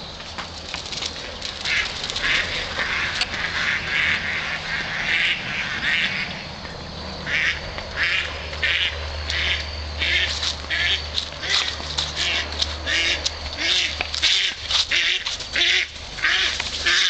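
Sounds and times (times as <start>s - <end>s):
ducks quacking: 1.6s - 6.5s, 7.2s - 17.0s.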